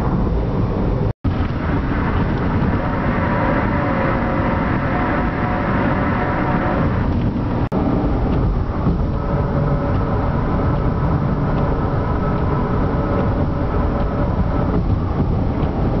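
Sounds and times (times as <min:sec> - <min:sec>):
heavy low rumble: 0:00.0 - 0:16.0
hollow humming drone: 0:00.0 - 0:16.0.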